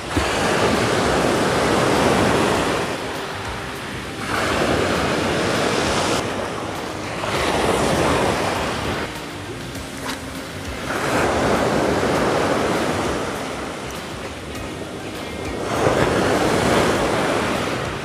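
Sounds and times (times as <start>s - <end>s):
sea waves breaking: 0.0s - 18.0s
wind buffeting microphone: 0.0s - 18.0s.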